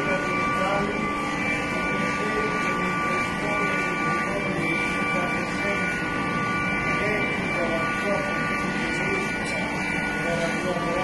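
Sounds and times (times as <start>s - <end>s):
constant whining tones: 0.0s - 11.0s
faint voices: 0.0s - 11.0s
mechanical hum and hiss: 0.0s - 11.0s.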